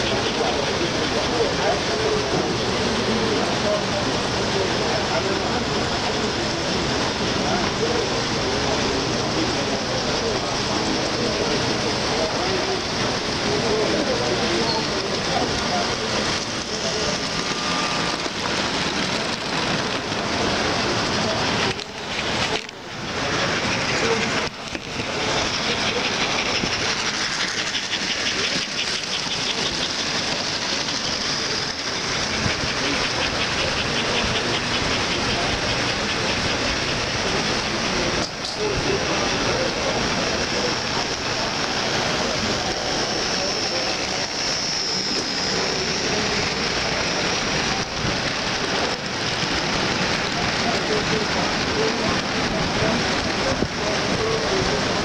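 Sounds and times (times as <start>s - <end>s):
fast clicking of passing locomotive: 0.0s - 55.0s
model train wheels rumbling on rail: 0.0s - 55.0s.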